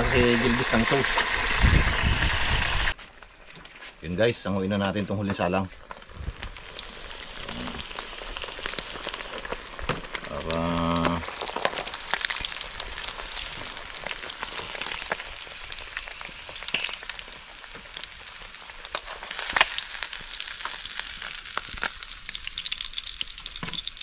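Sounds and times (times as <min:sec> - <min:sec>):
fish frying in hot oil: 0:00.0 - 0:03.0, 0:05.6 - 0:24.0.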